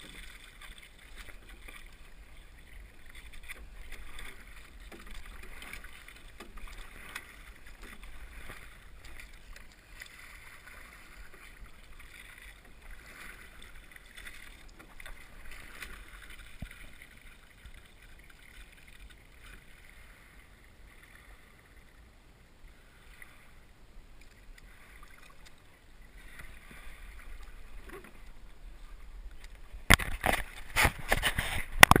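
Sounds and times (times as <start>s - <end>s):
water swishing against boat hull: 0.0s - 32.0s.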